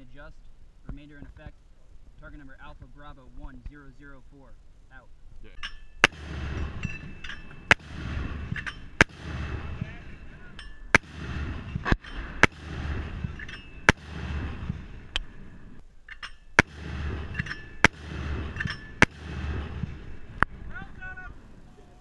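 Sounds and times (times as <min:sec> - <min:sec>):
mortar fire reports: 0:00.0 - 0:15.8, 0:16.6 - 0:22.0
low rumble: 0:04.2 - 0:22.0.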